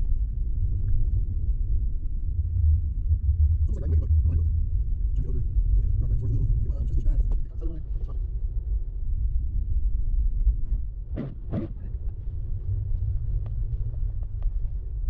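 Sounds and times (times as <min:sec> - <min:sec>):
jeep engine and tyres rumbling: 0:00.0 - 0:15.0.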